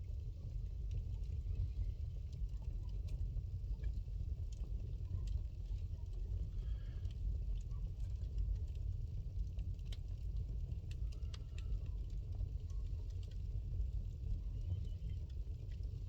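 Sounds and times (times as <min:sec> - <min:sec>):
low fire rumble: 0:00.0 - 0:16.0.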